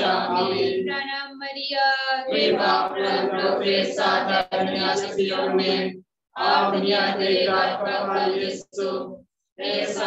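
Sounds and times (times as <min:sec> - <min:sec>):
voices reciting prayer in unison: 0:00.0 - 0:10.0.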